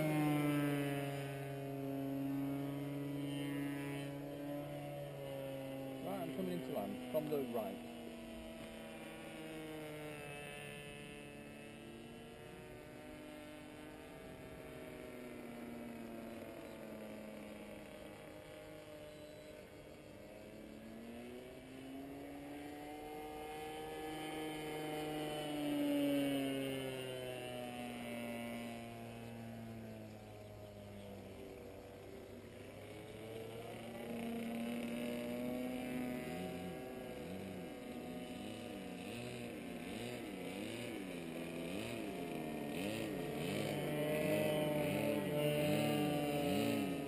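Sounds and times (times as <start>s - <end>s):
model plane engine flying overhead: 0.0s - 47.0s.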